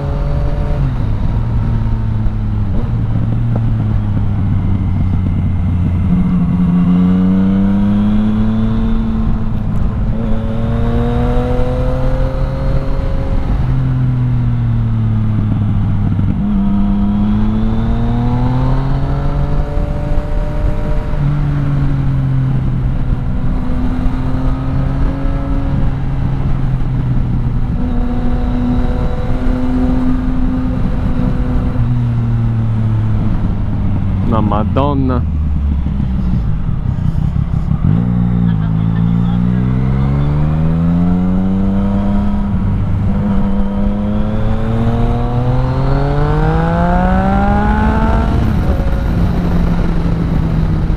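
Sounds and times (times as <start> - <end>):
motorcycle engine accelerating: 0.0 - 50.9
road and wind noise: 0.0 - 50.9.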